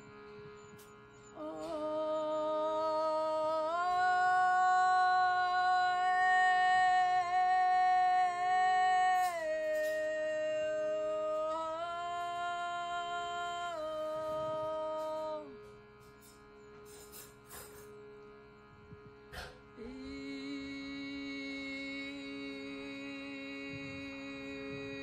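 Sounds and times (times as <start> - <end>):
woman singing held wordless tones: 0.0 - 16.5, 19.6 - 25.0
steady drone note: 0.0 - 25.0.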